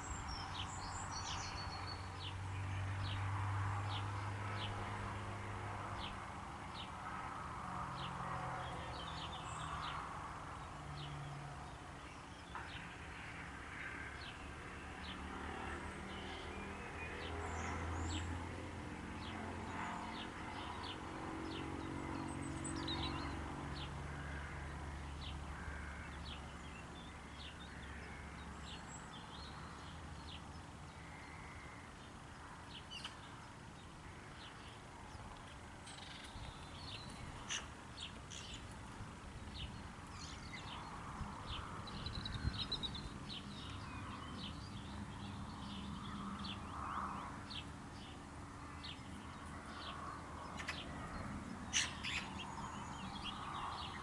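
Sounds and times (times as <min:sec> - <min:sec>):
small birds chirping: 0:00.0 - 0:04.9, 0:07.9 - 0:18.5, 0:19.1 - 0:54.0.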